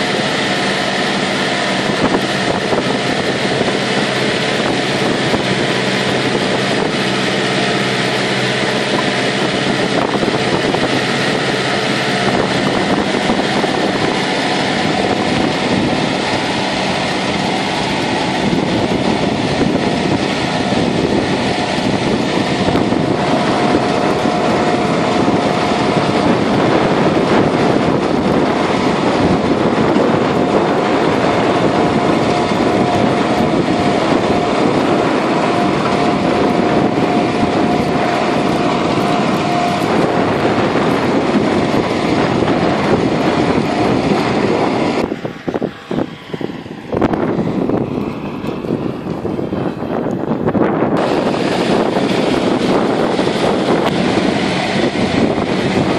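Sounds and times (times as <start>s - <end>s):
faint steady whine: 0.0s - 55.9s
tractor and disc harrow churning soil: 0.0s - 55.9s
wind on microphone: 0.0s - 55.9s.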